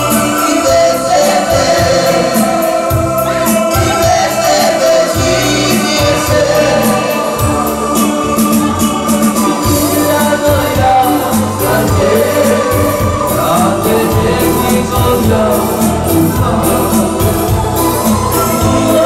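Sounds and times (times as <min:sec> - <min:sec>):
dance music with singing: 0:00.0 - 0:19.0.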